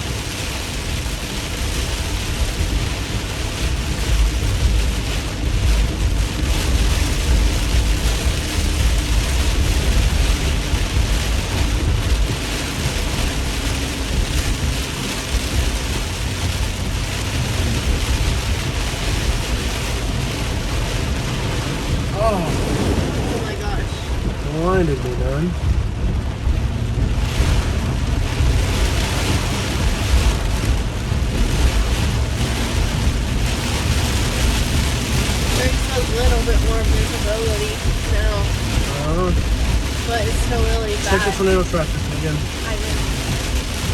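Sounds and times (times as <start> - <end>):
car rumble: 0.0 - 43.9
heavy rain and tyre spray: 0.0 - 43.9.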